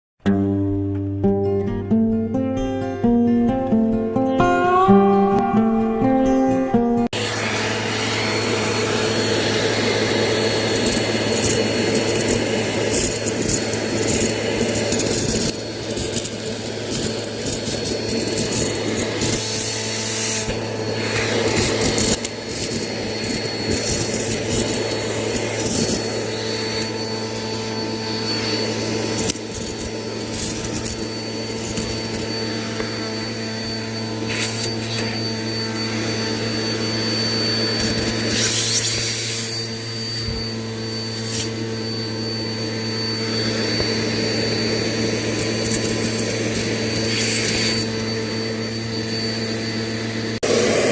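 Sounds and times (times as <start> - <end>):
vacuum cleaner running: 4.4 - 50.9.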